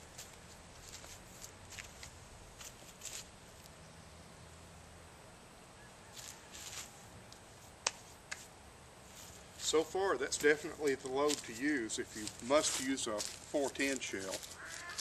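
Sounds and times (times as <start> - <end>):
faint rustles and clicks: 0.0 - 3.7, 6.1 - 9.8, 10.4 - 15.0.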